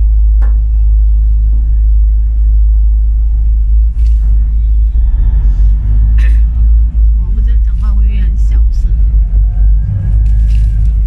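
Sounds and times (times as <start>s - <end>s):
loud low rumble: 0.0s - 11.0s.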